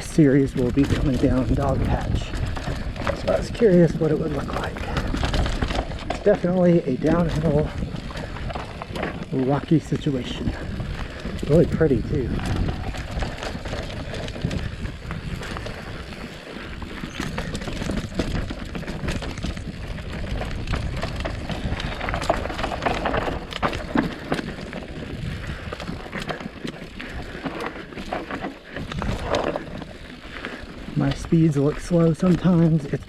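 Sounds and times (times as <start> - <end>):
bike rattles and knocks: 0.0 - 33.0
tyres rumbling over rock and dirt: 0.0 - 33.0.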